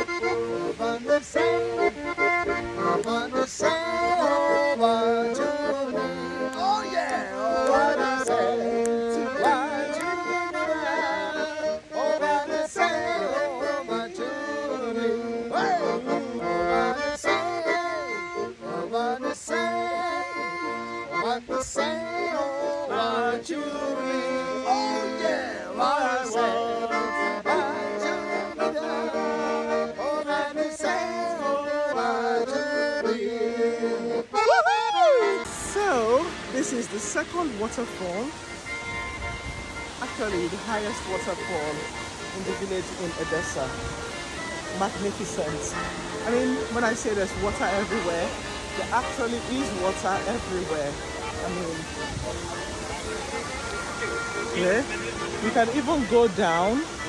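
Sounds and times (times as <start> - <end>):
accordion folk melody: 0.0 - 57.0.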